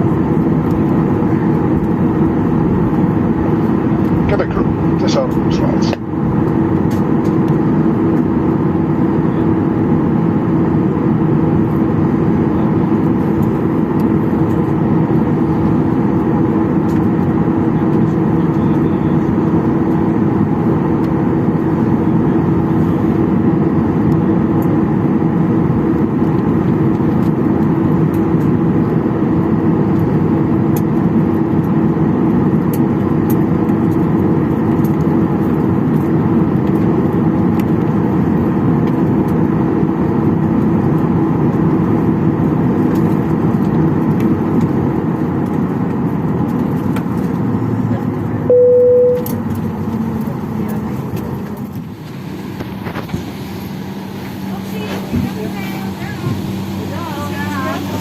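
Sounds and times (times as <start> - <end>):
cabin air system hum: 0.0 - 58.0.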